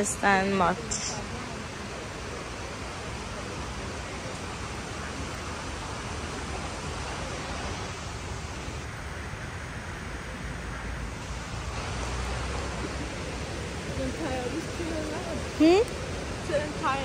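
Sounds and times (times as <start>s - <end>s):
faint high whine: 0.0s - 17.0s
falling water rushing: 0.0s - 17.0s.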